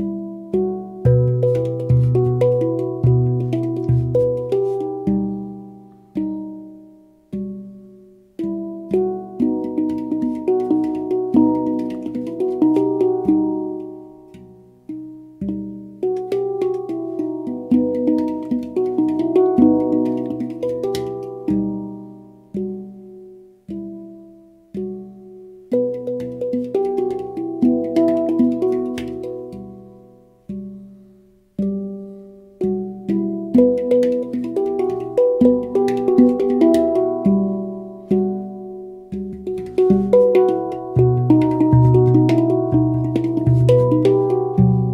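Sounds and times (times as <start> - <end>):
handpan melody: 0.0 - 44.9.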